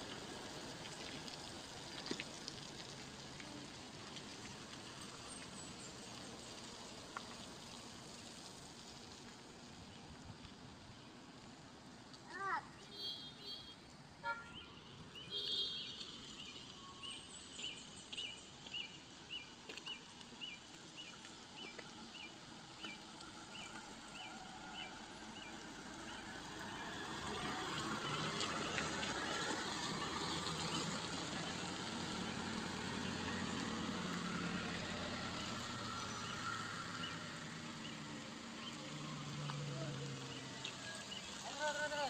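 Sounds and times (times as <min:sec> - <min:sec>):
vehicles driving on dirt road: 0:00.0 - 0:42.0.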